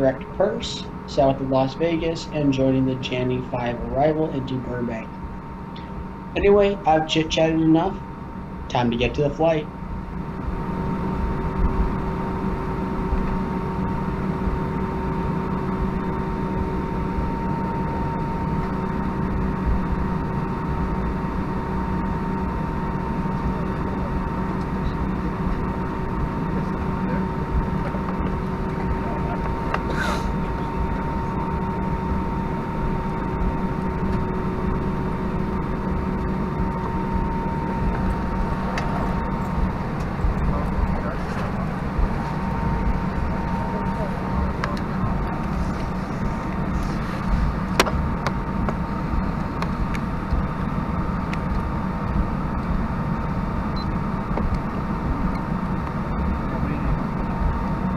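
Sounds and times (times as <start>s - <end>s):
airplane cabin engine hum: 0.0s - 57.9s.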